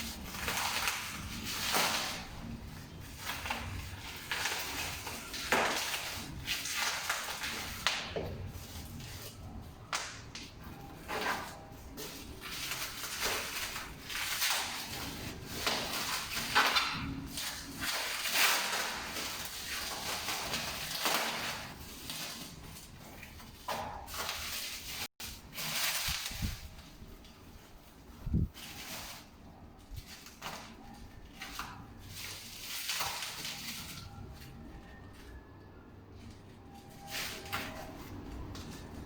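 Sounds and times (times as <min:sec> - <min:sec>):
packaging rustling and crinkling: 0:00.0 - 0:39.0.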